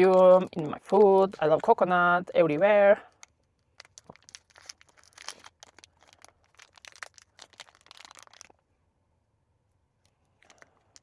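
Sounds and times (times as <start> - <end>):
plastic wrapper crinkling and tearing: 0.0 - 8.7, 10.0 - 11.0.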